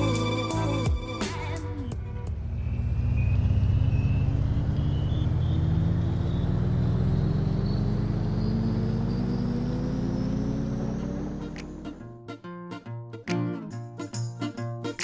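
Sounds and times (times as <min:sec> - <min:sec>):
engine humming: 0:00.0 - 0:12.1.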